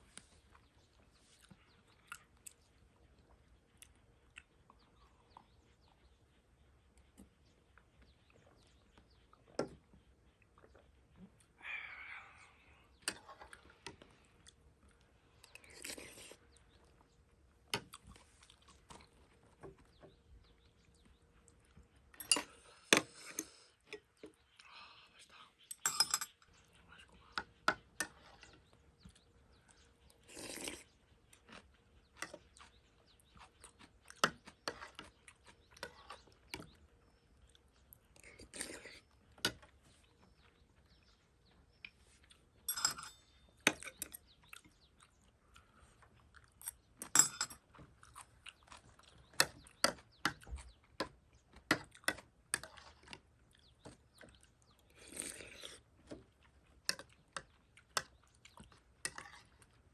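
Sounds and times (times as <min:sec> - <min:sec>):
chewing noodles with clicks: 0:00.2 - 0:06.1, 0:12.9 - 0:25.8, 0:26.4 - 0:59.9.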